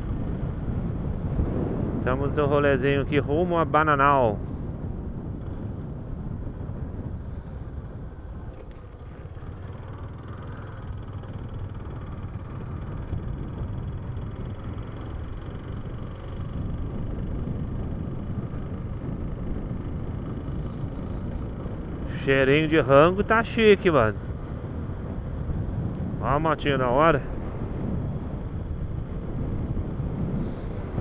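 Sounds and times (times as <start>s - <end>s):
motorcycle engine running: 0.0s - 31.0s
wind on microphone: 0.0s - 31.0s.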